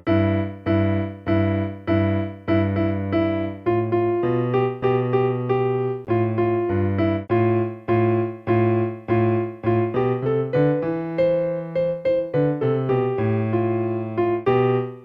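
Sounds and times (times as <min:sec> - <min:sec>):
electronic keyboard notes: 0:00.0 - 0:15.0.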